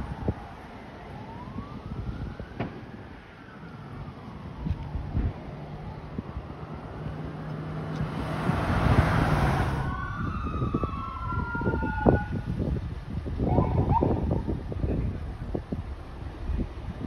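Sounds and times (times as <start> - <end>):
fire engine siren wailing: 0.0 - 17.0
passing vehicle: 0.0 - 17.0
wind buffeting microphone: 0.0 - 17.0.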